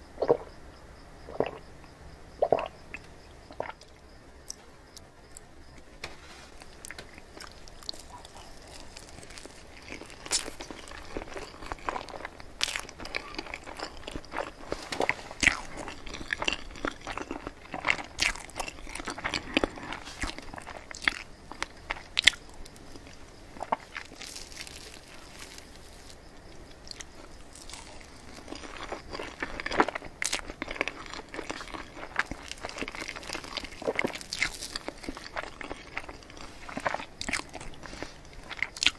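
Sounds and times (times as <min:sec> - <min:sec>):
chewing soft cake: 0:02.4 - 0:38.9.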